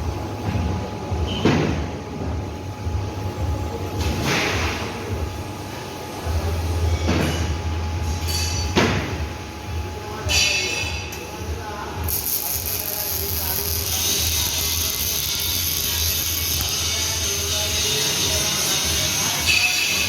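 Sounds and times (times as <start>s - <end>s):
industrial machinery humming: 0.0s - 20.0s.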